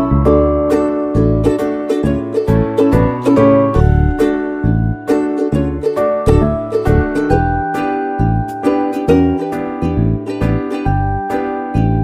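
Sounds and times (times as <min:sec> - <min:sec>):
pulsing bass line: 0:00.0 - 0:11.2
upbeat plucked-string tune: 0:00.0 - 0:12.0.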